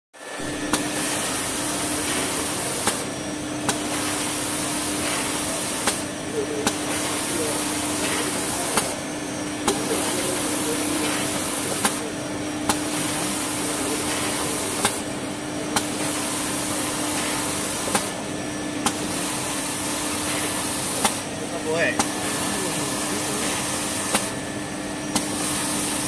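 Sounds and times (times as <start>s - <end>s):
machine humming: 0.2s - 26.0s.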